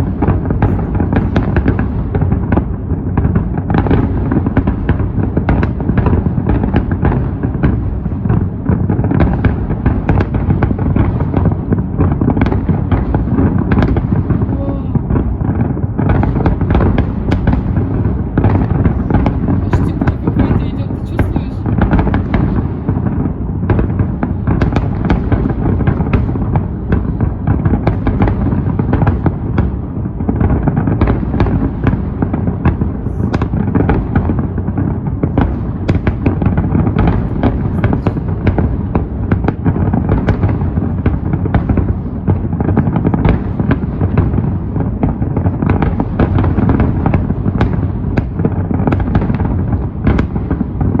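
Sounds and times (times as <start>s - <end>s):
fireworks cracking and booming: 0.0s - 51.0s.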